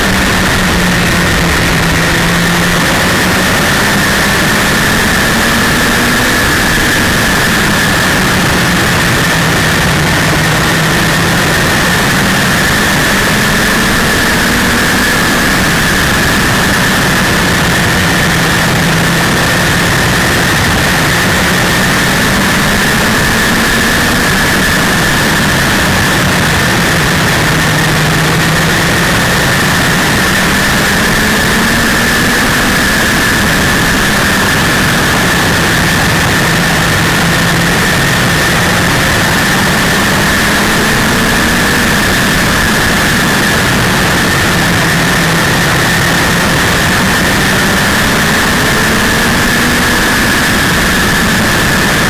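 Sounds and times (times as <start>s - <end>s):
high whine: 0.0s - 52.0s
loud rush of noise: 0.0s - 52.0s
race car engine running hard: 0.0s - 52.0s.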